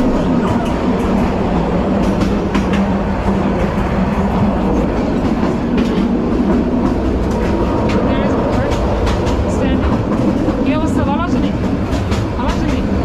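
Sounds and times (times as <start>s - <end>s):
train rumble inside carriage: 0.0s - 13.0s
wheels clacking over rail joints: 0.0s - 13.0s.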